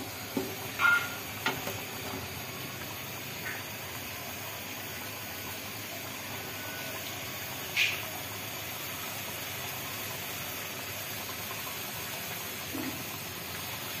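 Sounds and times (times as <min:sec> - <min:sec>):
gravy bubbling in a pan: 0:00.0 - 0:14.0.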